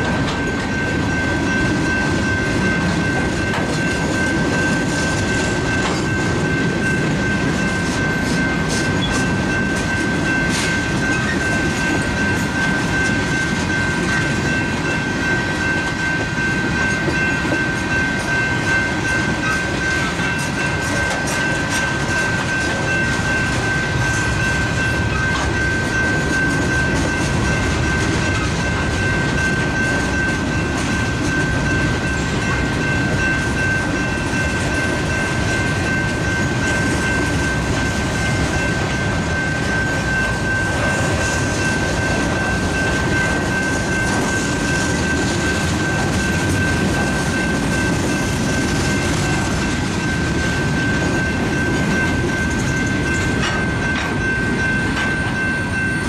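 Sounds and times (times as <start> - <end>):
high-pitched ringing tone: 0.0 - 56.0
train wheels rumbling on rails: 0.0 - 56.0.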